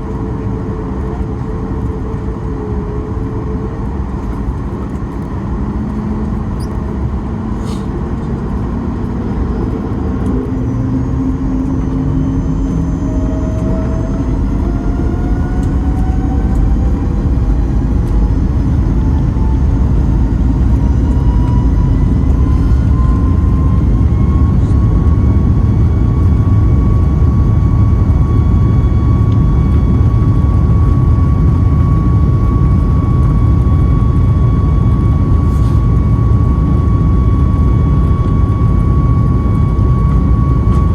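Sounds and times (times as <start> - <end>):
deep rumble: 0.0 - 40.9
jet engine whine rising: 0.0 - 40.9.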